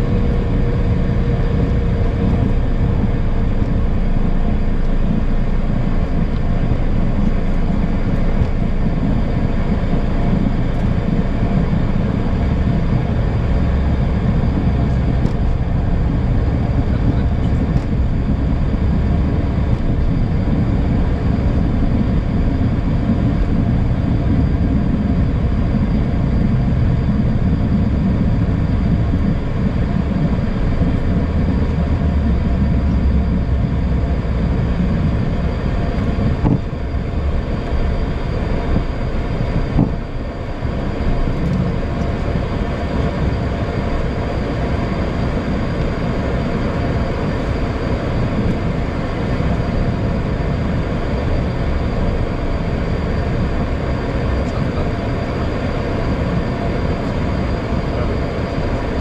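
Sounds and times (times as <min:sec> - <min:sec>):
jet engines humming: 0:00.0 - 0:59.0
wheels rumbling on runway: 0:00.0 - 0:59.0.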